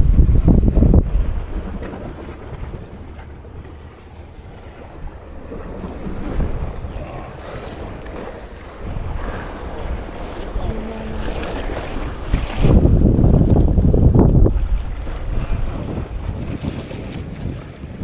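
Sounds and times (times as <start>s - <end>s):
sea surf on rocks: 0.0s - 18.0s
wind gusting on microphone: 0.0s - 18.0s.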